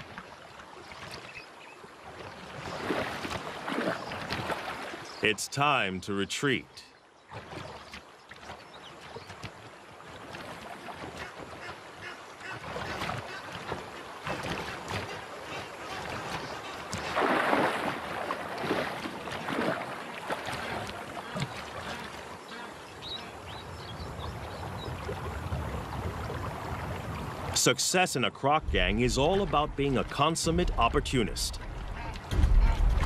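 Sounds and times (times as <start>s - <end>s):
water splashing and sloshing: 0.0s - 33.0s.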